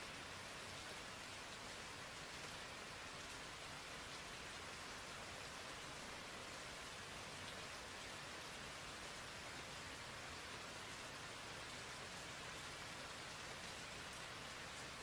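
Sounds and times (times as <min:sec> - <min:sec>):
steady rain patter: 0:00.0 - 0:15.0.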